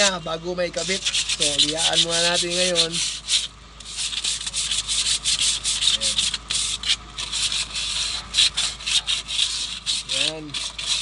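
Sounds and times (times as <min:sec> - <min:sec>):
sandpaper sanding metal: 0:00.7 - 0:11.0.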